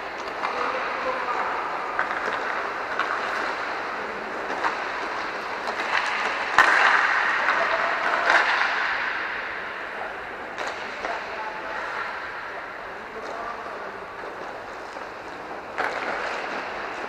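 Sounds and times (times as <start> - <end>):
hockey sticks and puck clicking: 0.0 - 9.6, 10.5 - 12.3, 14.2 - 17.0
skate wheels rolling: 0.0 - 17.0.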